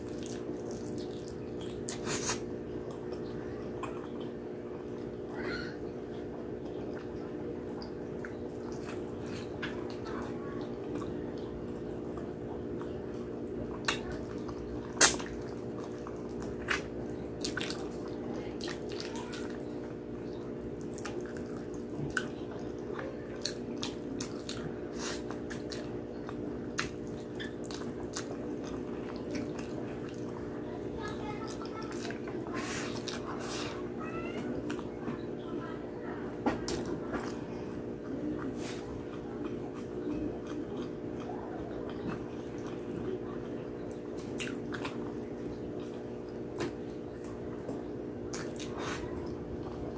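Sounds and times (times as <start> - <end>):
wet chewing and lip smacking: 0.0 - 4.4, 6.2 - 30.4, 38.0 - 49.9
steady low hum: 0.0 - 49.9.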